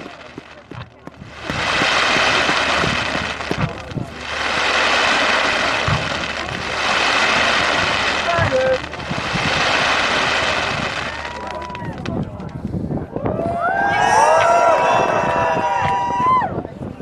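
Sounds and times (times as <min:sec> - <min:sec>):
dense crackling firework hiss: 0:00.0 - 0:17.0
firework bangs: 0:00.0 - 0:17.0.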